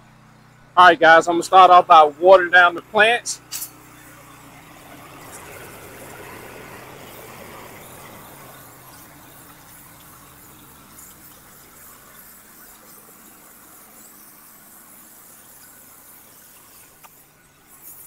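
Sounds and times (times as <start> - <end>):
pressure washer spray hissing: 1.4 - 18.0.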